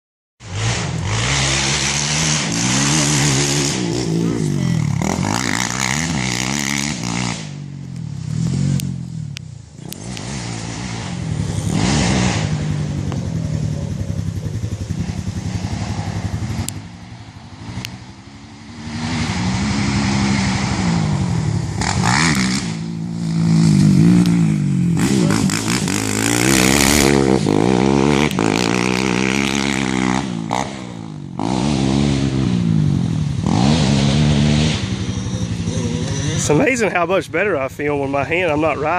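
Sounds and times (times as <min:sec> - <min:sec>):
atv engines revving: 0:00.4 - 0:38.9.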